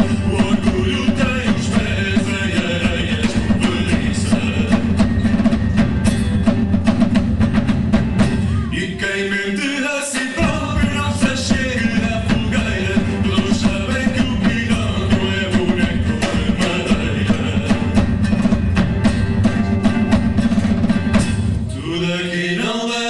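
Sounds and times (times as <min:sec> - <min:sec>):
live band playing: 0:00.0 - 0:09.5, 0:10.2 - 0:21.8.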